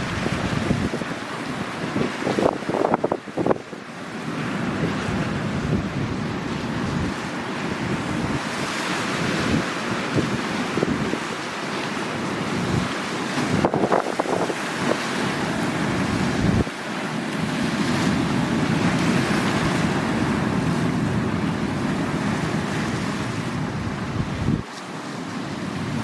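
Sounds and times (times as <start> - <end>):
wind rumbling on microphone: 0.0 - 3.8, 4.4 - 11.5, 12.2 - 16.8, 17.5 - 24.7
sea waves breaking on shore: 0.0 - 26.0.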